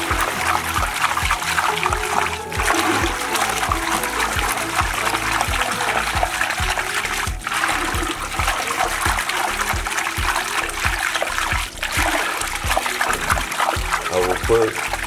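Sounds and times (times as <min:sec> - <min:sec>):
liquid sloshing in steel pot: 0:00.0 - 0:15.0.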